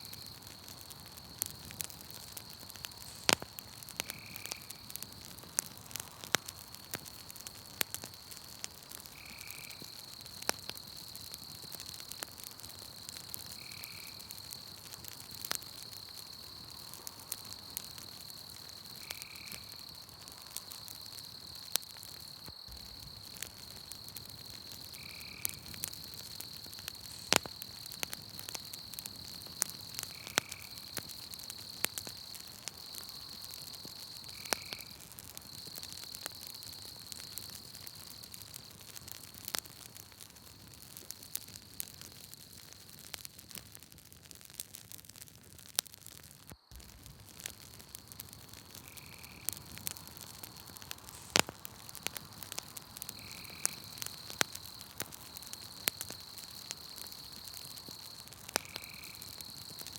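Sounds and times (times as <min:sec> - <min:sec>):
insect trill: 0:00.0 - 0:43.0, 0:46.2 - 0:59.9
campfire crackling and popping: 0:00.0 - 0:59.9.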